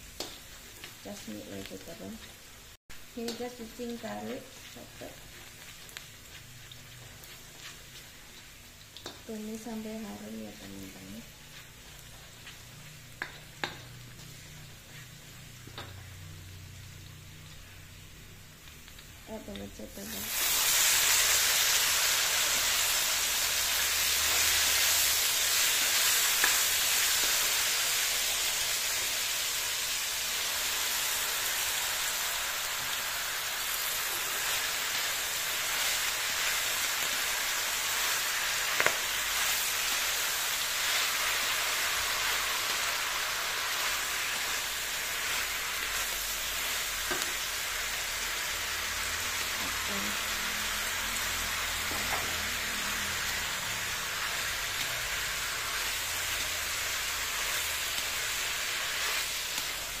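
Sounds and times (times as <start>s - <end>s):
vegetables sizzling in hot oil: 0.0s - 60.0s.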